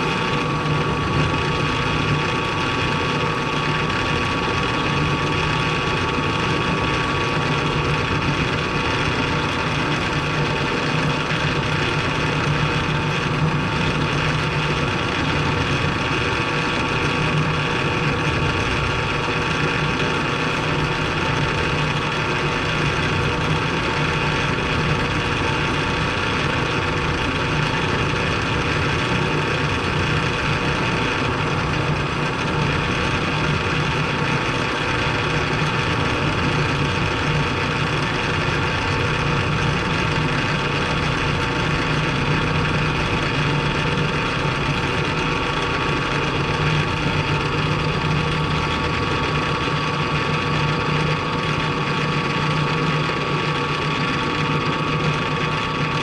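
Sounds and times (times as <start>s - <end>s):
milling machine hum and whine: 0.0s - 56.0s.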